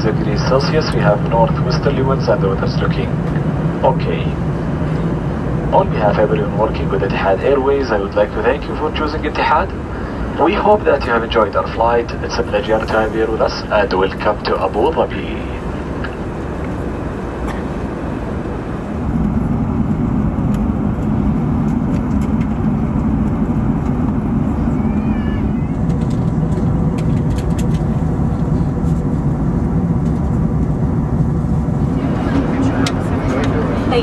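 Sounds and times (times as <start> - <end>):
jet engines droning: 0.0 - 34.0
rushing air in aircraft cabin: 0.0 - 34.0.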